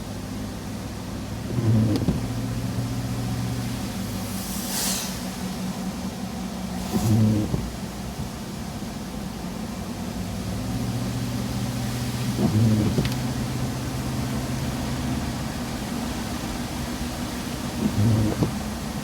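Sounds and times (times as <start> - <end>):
truck engine and road noise: 0.0 - 19.0.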